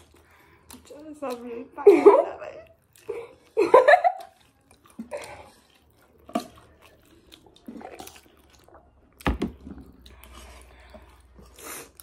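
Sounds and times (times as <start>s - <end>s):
people slurping noodles: 0.0s - 9.0s, 9.7s - 12.0s.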